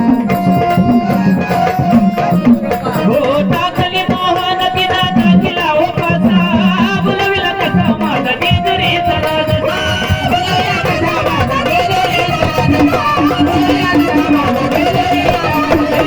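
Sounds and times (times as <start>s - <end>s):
hand drum strokes: 0.0s - 16.0s
wavering melody: 0.0s - 16.0s.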